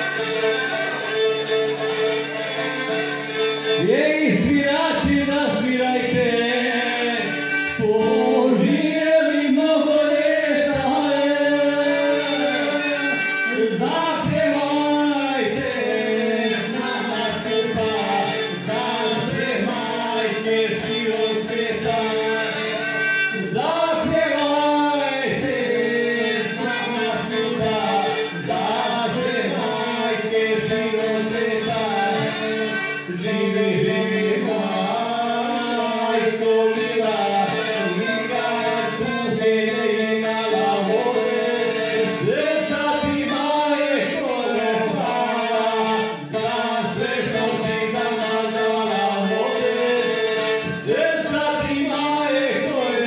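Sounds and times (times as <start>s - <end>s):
strummed lute: 0.0s - 53.0s
violin playing: 0.0s - 53.0s
man singing: 3.3s - 53.0s.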